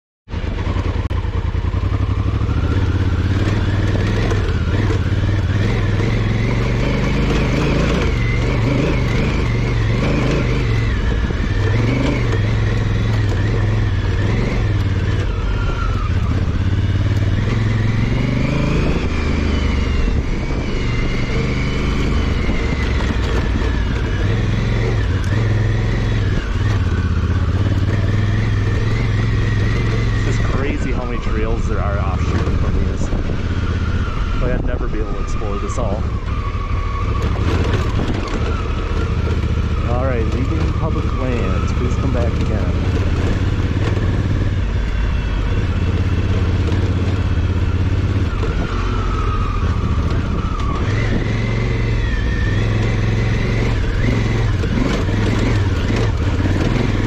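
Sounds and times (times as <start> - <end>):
motorcycle engine revving off-road: 0.3 - 57.0.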